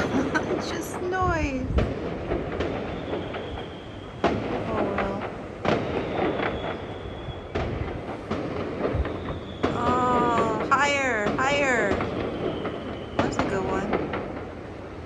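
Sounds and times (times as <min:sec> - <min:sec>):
fireworks bangs: 0:00.0 - 0:15.0
fireworks pops: 0:00.0 - 0:15.0
fireworks rumble: 0:00.0 - 0:15.0.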